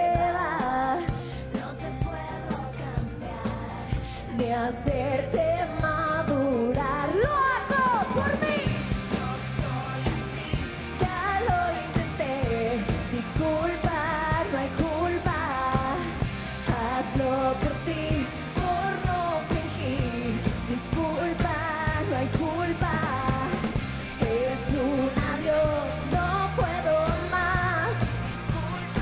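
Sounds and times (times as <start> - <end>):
person singing: 0.0 - 29.0
pop-rock band music: 0.0 - 29.0.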